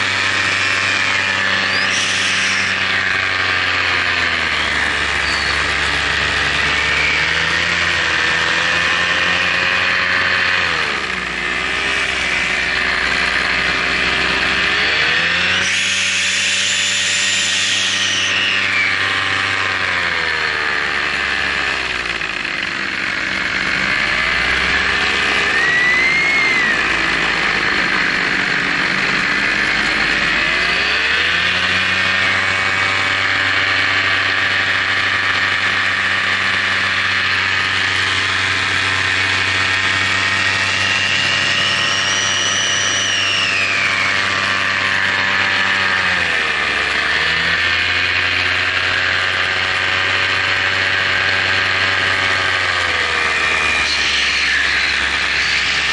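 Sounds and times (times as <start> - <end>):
model aircraft motor and propeller: 0.0 - 55.9.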